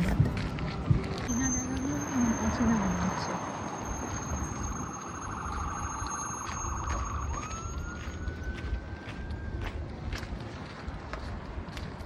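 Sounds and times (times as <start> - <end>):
siren: 0.0 - 10.3
low rumble: 0.0 - 12.0.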